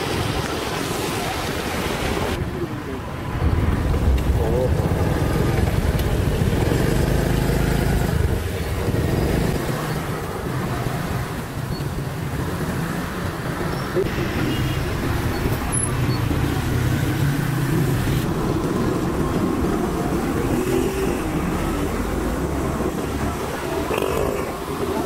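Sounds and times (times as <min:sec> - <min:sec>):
city traffic: 0:00.0 - 0:25.0.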